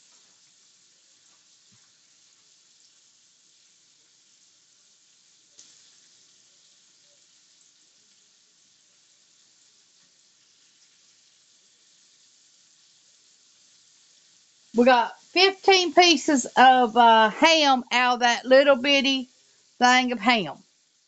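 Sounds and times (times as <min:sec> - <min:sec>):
ham sizzling in a skillet: 0:00.0 - 0:21.0.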